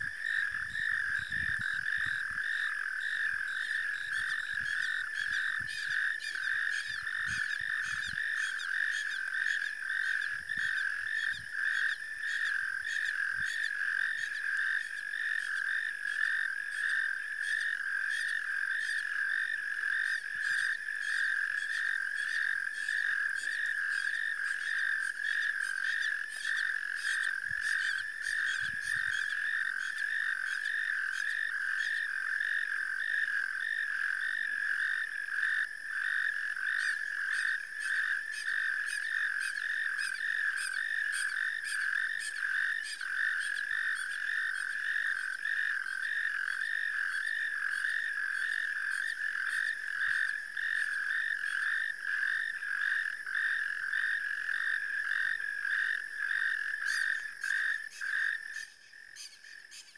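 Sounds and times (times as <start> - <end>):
frogs trilling: 0.0 - 59.9.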